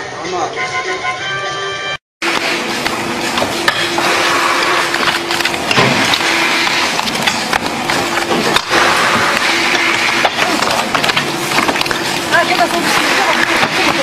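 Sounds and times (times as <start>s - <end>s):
factory workroom hum: 0.0s - 14.0s.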